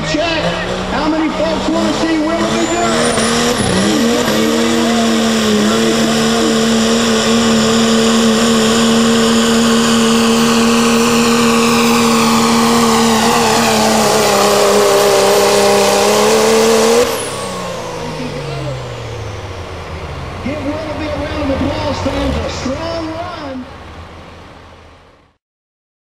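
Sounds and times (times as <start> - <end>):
diesel engine at full throttle: 0.0 - 25.4
high whine falling in pitch: 1.0 - 23.7.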